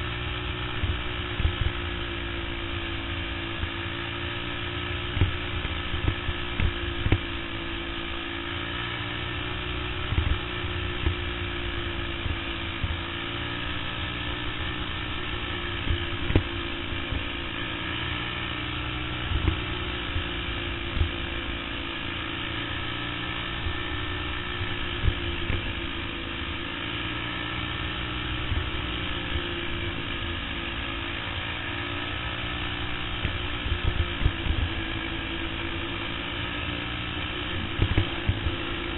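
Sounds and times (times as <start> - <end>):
racing kart engine running hard: 0.0 - 38.9.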